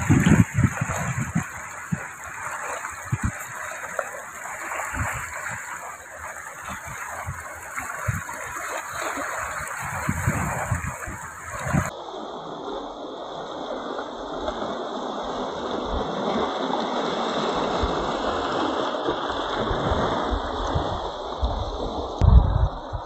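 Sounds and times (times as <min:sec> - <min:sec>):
low thumps of waves: 0:00.0 - 0:11.9, 0:13.6 - 0:23.0
waves lapping against rocks: 0:00.0 - 0:11.9, 0:13.6 - 0:22.2.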